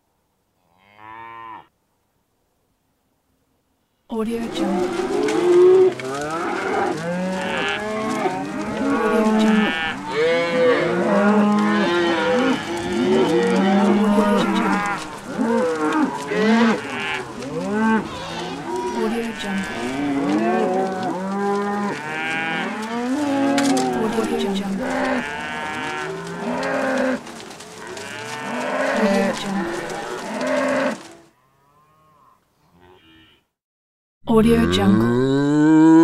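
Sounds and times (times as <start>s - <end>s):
herd of cattle mooing: 4.4s - 33.4s.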